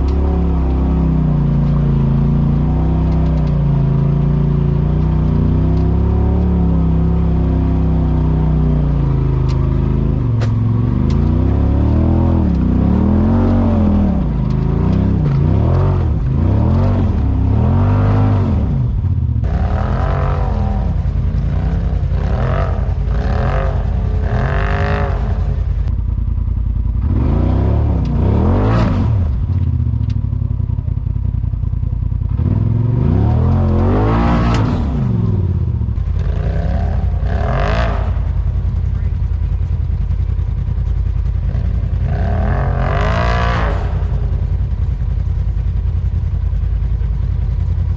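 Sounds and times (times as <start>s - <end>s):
clatter: 0.0s - 47.9s
vehicle engine revving: 0.0s - 47.9s.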